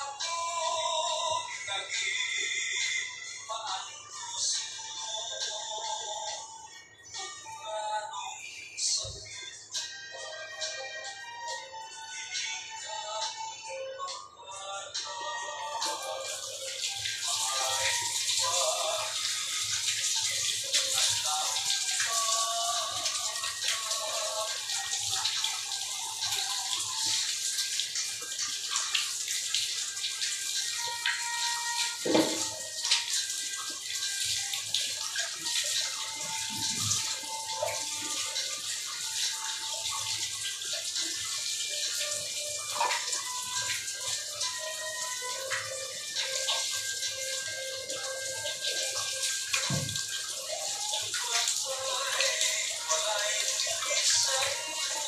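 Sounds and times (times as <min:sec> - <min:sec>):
tap water running and splashing: 0:08.9 - 0:13.4, 0:15.0 - 0:55.0.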